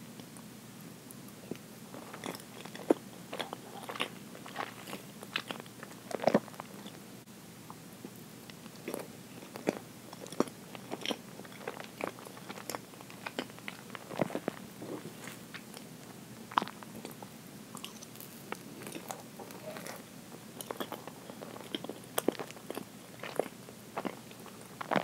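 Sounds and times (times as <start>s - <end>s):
close-up chewing: 1.4s - 7.0s, 8.5s - 25.0s.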